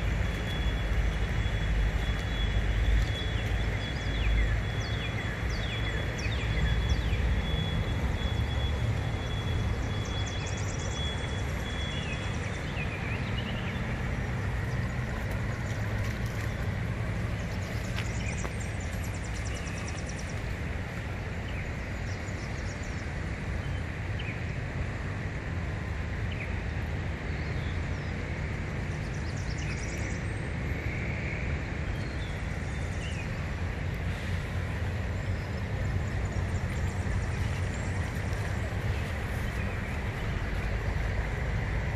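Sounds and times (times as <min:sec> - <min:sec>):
continuous low rumble: 0:00.0 - 0:41.9.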